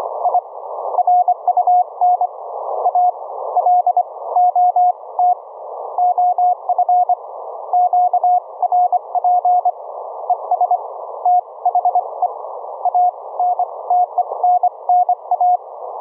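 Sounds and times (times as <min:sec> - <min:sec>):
radio band hiss: 0:00.0 - 0:16.0.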